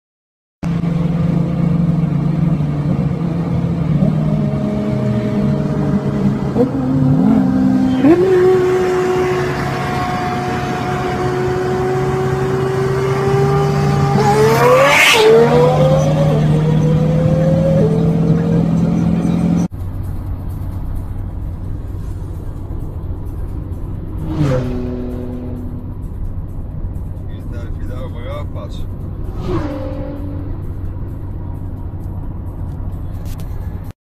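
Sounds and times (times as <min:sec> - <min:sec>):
car engine accelerating: 0:00.6 - 0:33.9.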